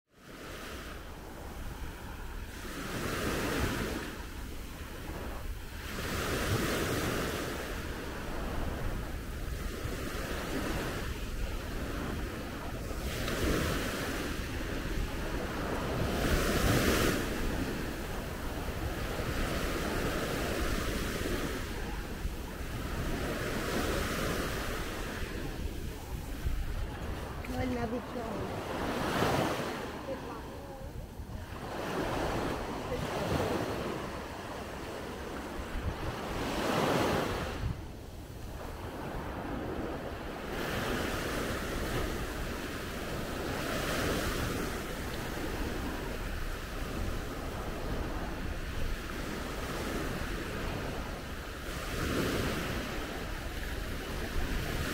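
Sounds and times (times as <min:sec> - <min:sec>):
sea waves washing onto beach: 0:00.2 - 0:54.9
wind buffeting microphone: 0:00.7 - 0:54.9.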